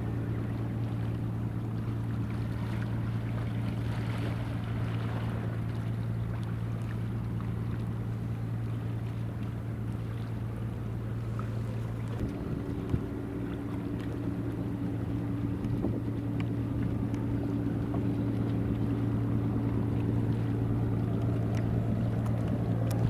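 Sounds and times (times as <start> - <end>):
boat engine droning: 0.0 - 23.0
water noise: 0.0 - 23.0
wind: 0.0 - 23.0.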